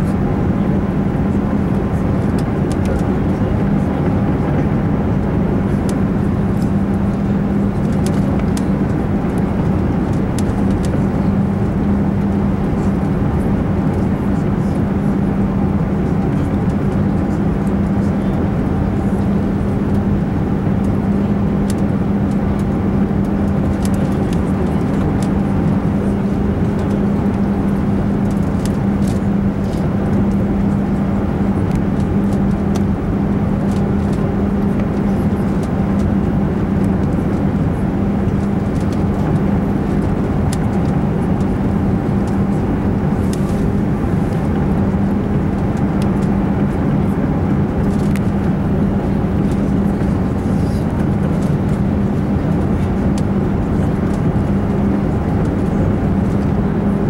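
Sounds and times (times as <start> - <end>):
engines and airflow rushing: 0.0 - 57.0
steady low hum: 0.0 - 57.0.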